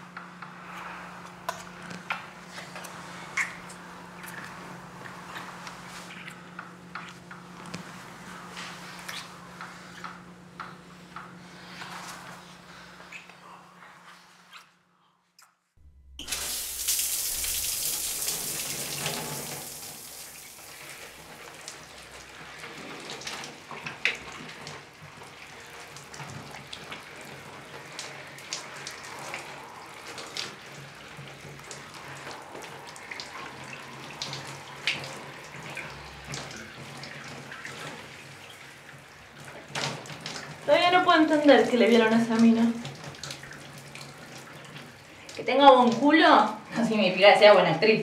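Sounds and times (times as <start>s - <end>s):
shower water splashing: 0.0s - 13.3s, 16.2s - 47.7s.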